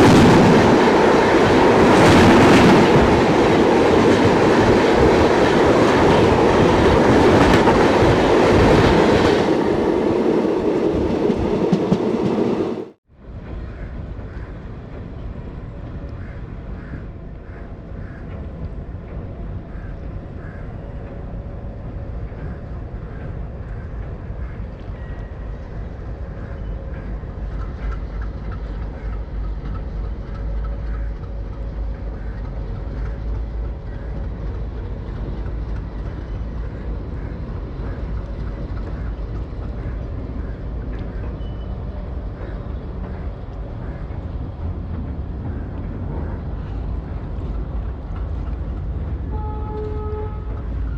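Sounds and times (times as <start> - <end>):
train wheel and track rumble: 0.0 - 50.9.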